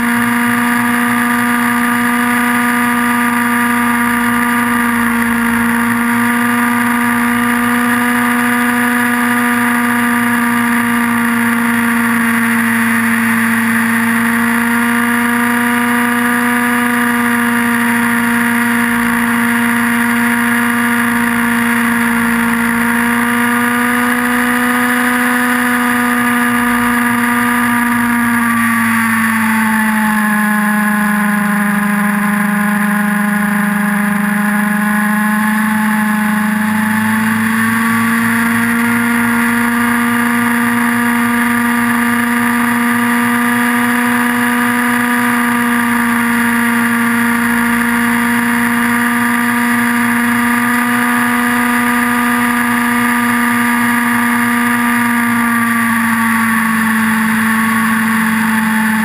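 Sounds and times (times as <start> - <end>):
model helicopter engine and rotors buzzing: 0.0 - 59.0.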